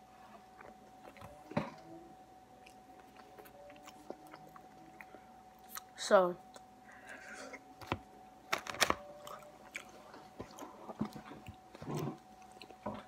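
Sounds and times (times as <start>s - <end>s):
person chewing crunchy food: 0.0s - 1.9s, 2.6s - 7.8s, 9.0s - 13.0s.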